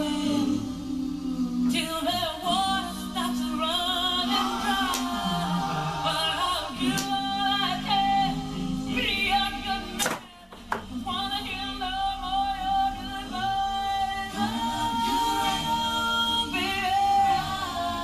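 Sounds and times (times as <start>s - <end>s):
vocal group singing in harmony: 0.0s - 18.0s.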